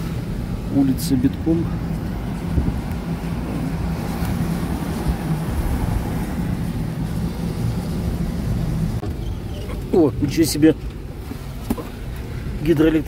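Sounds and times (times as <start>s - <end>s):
car road noise: 0.0s - 13.0s
tyres on wet road: 0.0s - 13.0s.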